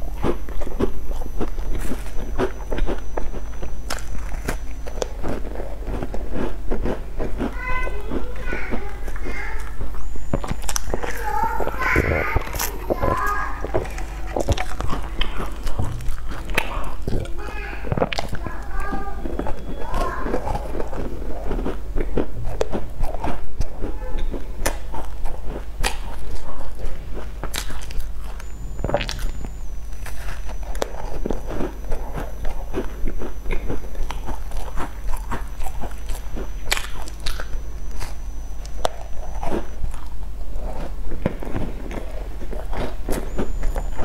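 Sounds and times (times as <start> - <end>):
crisp chewing crunches: 0.0 - 44.0
low hum: 0.0 - 44.0.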